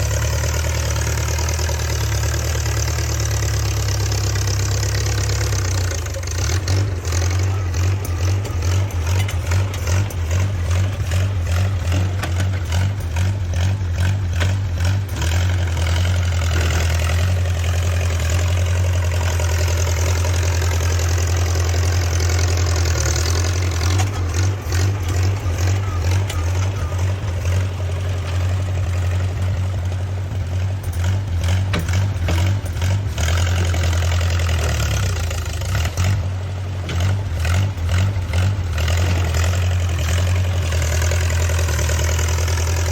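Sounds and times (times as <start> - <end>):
bulldozer engine running: 0.0 - 42.9.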